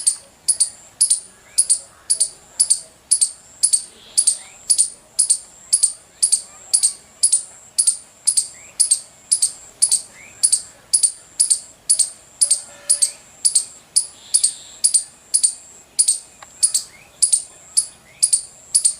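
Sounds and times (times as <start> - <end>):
baby squirrel chirping: 0.0 - 18.9.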